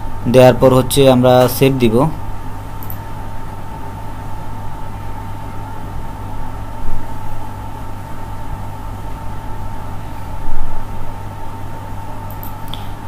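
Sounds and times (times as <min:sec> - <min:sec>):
low hum and hiss: 0:00.0 - 0:13.0
thin steady whine: 0:00.0 - 0:13.0.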